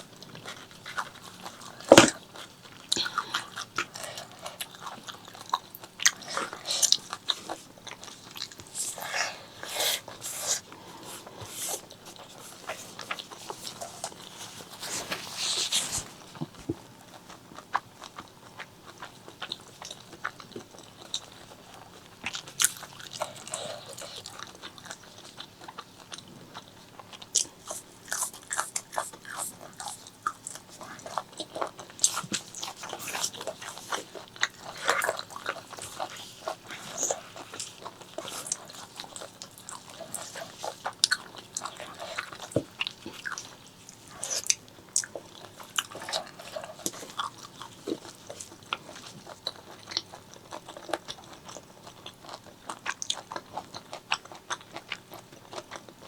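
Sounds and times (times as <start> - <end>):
person chewing and biting food: 0.0 - 56.0.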